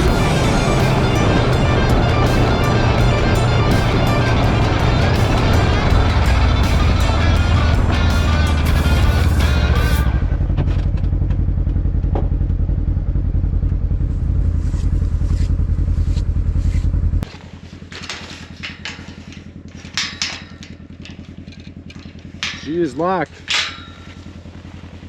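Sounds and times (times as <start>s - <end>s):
utility vehicle engine rumbling: 0.0s - 25.0s.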